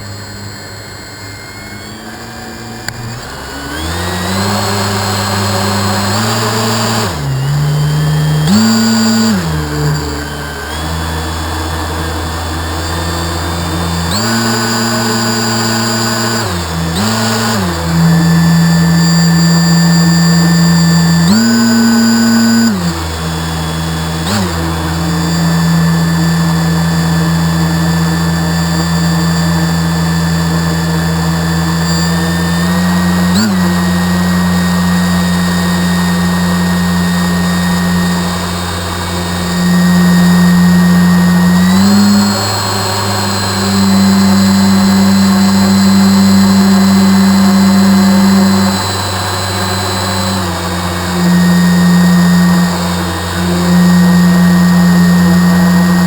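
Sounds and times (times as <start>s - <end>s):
model boat motor running: 0.0s - 56.0s.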